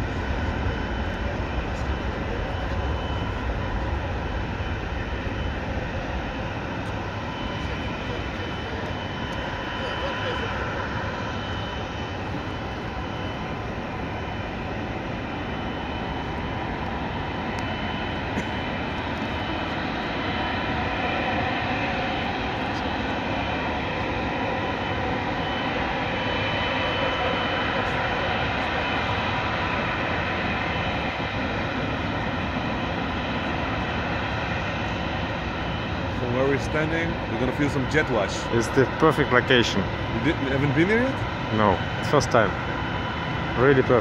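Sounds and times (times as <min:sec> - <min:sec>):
jet engine high whine: 0:00.0 - 0:44.0
jet engines roaring: 0:00.0 - 0:44.0.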